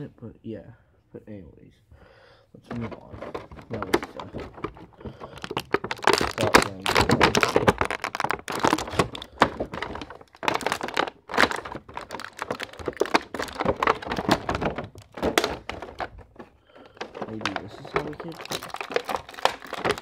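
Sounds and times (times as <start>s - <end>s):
plastic packaging crinkling: 2.7s - 20.0s.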